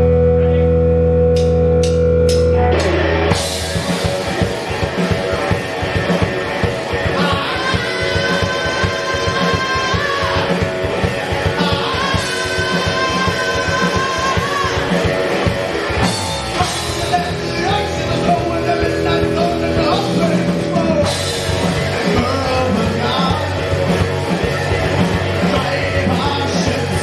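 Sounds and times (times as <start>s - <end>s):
bass guitar: 0.0s - 27.0s
electric guitar: 0.0s - 27.0s
driving drum beat: 1.3s - 27.0s.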